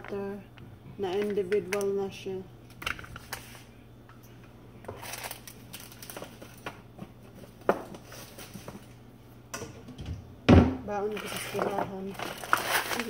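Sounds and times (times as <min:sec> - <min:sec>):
items rustling and clattering: 0:00.0 - 0:02.0, 0:02.7 - 0:03.7, 0:04.8 - 0:09.0, 0:09.6 - 0:13.0
low steady hum: 0:00.0 - 0:13.0.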